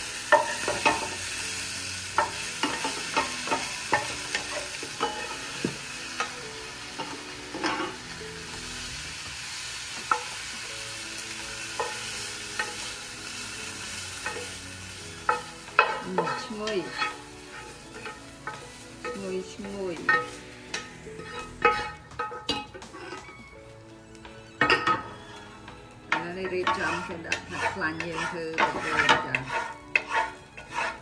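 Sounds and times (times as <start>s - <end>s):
spatula scraping a pan: 0.0s - 8.2s, 11.2s - 23.5s, 24.2s - 31.0s
shrimp sizzling in hot oil: 0.0s - 31.0s.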